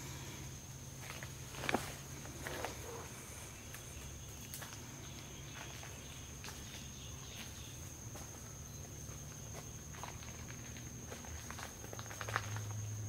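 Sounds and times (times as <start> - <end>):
high-pitched insect trill: 0.0 - 13.0
outdoor ambience: 0.0 - 13.0.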